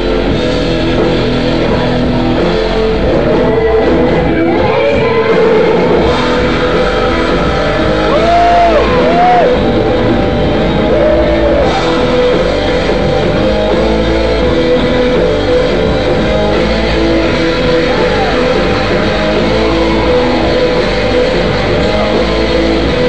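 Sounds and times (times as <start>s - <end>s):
loud rock band music: 0.0s - 23.0s.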